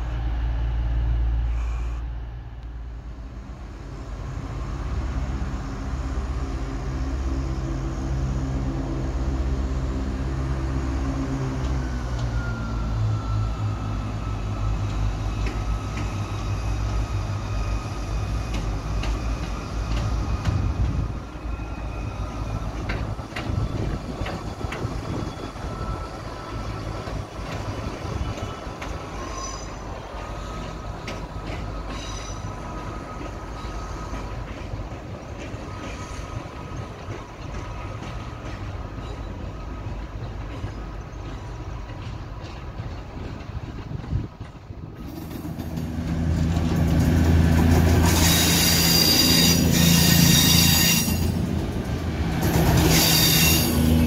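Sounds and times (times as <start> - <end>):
diesel train engine throbbing: 0.0 - 54.0.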